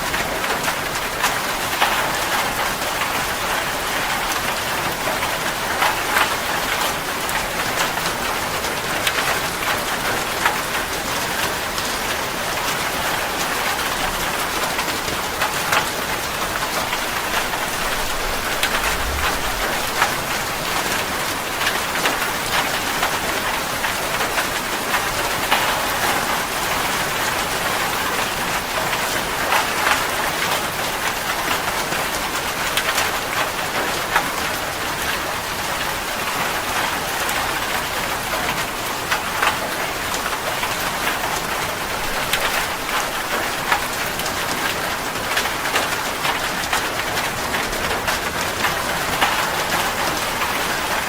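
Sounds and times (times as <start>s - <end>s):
rain falling on a surface: 0.0s - 51.0s.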